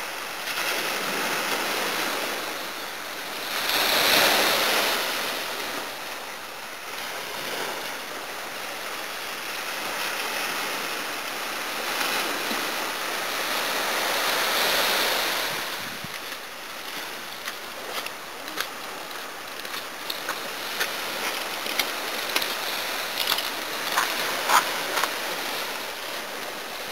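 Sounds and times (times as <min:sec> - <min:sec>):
small sea waves breaking: 0:00.0 - 0:26.9.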